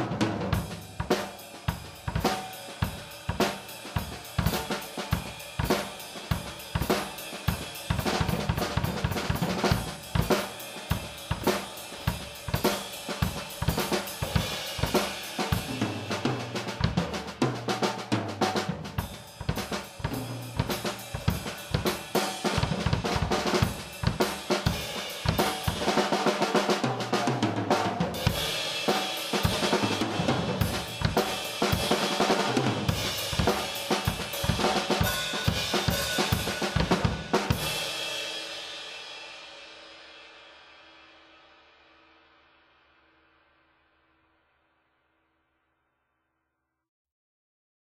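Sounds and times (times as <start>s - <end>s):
drum kit groove: 0.0s - 40.0s.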